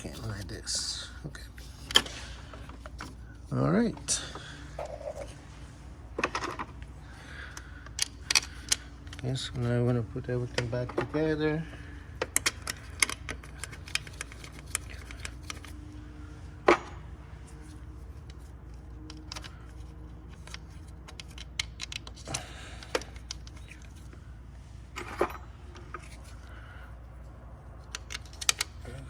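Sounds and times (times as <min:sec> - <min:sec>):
tools and metal parts clinking: 0:00.0 - 0:05.4, 0:07.4 - 0:16.0, 0:16.6 - 0:24.2, 0:24.9 - 0:29.0.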